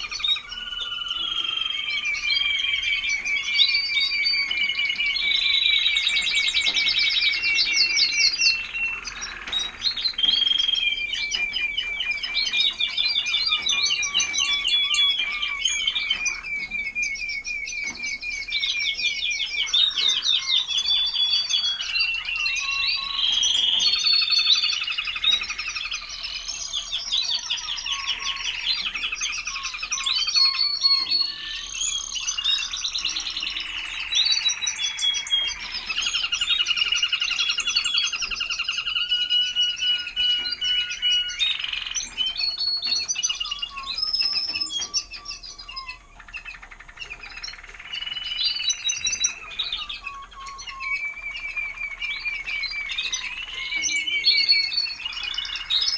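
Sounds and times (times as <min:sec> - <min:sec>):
canaries singing trills: 0:00.0 - 0:55.9.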